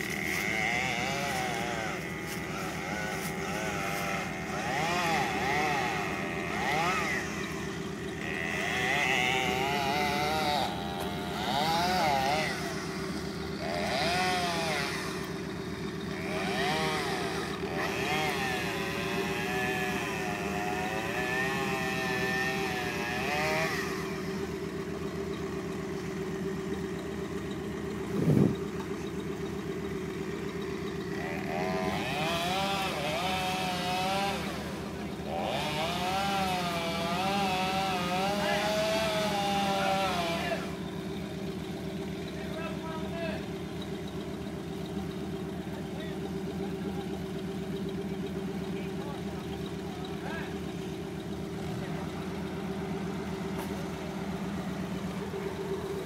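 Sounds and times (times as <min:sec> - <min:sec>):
chainsaw revving: 0:00.0 - 0:56.0
low engine drone: 0:00.0 - 0:56.0.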